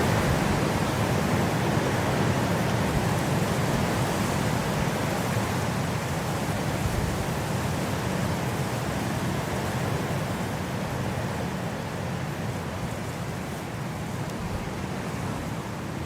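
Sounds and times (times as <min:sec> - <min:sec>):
low steady wind rush: 0:00.0 - 0:16.0.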